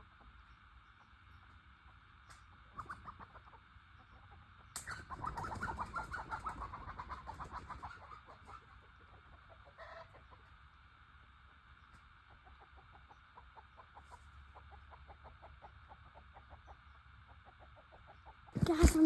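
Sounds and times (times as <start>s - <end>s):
chickens clucking: 0.1s - 10.6s, 12.2s - 19.0s.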